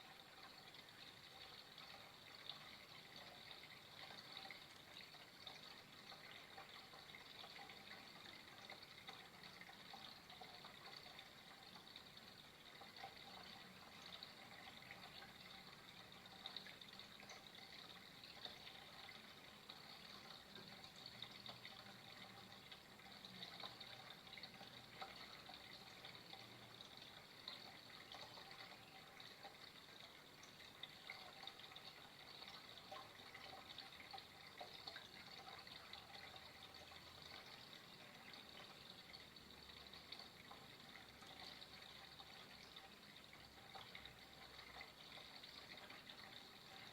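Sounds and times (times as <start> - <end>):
water flowing: 0.0 - 46.9.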